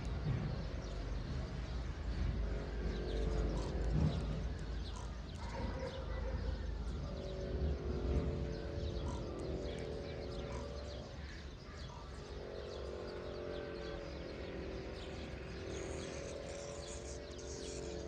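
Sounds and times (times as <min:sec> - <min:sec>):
birds chirping: 0:00.0 - 0:18.0
low hum and rumble: 0:00.0 - 0:18.0.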